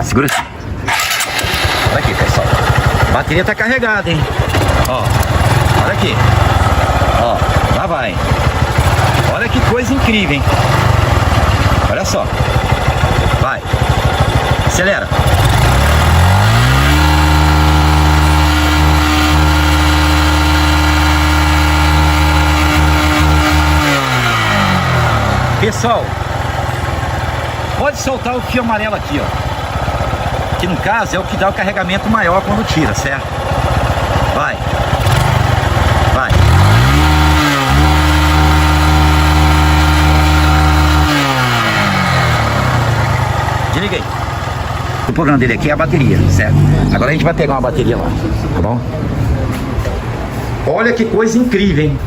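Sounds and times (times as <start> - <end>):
motorcycle engine revving: 0.0 - 50.7.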